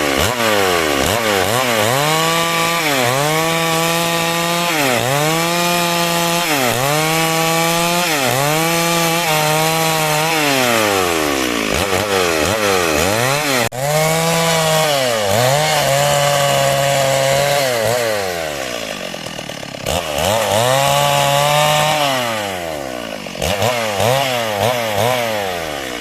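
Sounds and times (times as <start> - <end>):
chainsaw revving while sawing timber: 0.0 - 26.0.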